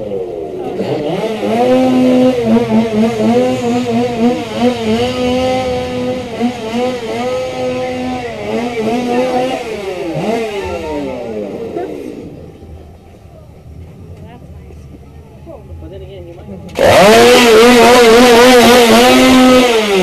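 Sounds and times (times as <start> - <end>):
small engine revving: 0.0 - 12.8, 16.6 - 20.0.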